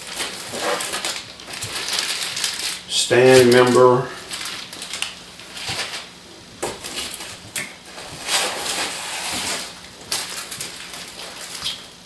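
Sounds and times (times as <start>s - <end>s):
packaging rustling: 0.0s - 6.1s, 6.8s - 12.0s.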